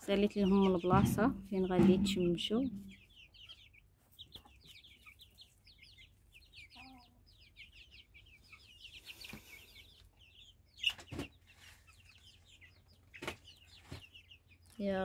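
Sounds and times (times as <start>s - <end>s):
chicken clucking: 0.0s - 15.0s
chicks peeping: 0.0s - 15.0s.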